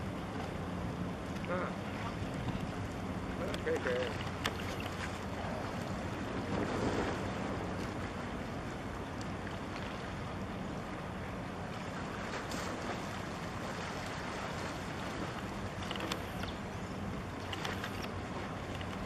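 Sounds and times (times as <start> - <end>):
ship engine drone: 0.0 - 19.0.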